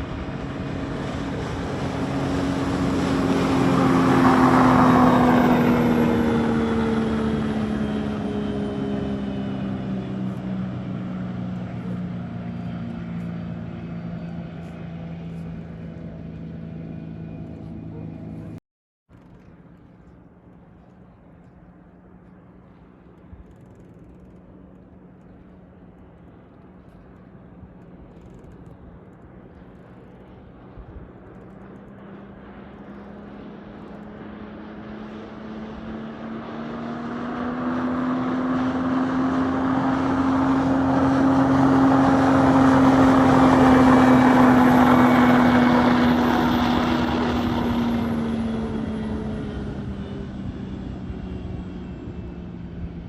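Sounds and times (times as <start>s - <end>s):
speedboat passing: 0.0s - 53.0s.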